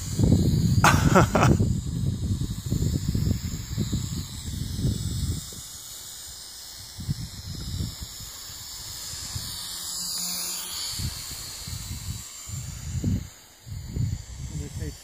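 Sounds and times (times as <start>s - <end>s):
wind buffeting microphone: 0.0s - 5.8s, 7.0s - 9.6s, 10.9s - 15.0s
drone propellers hissing: 0.0s - 15.0s.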